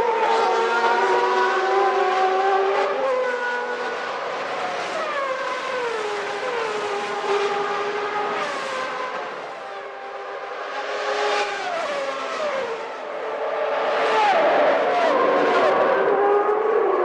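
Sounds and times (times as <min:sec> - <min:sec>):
racing car engine downshifting: 0:00.0 - 0:17.0.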